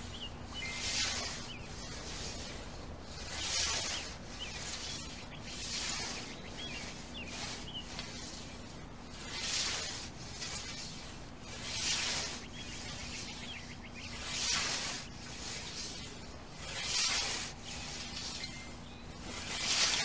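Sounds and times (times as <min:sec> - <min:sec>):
scythe swishing through grass: 0:00.0 - 0:20.0.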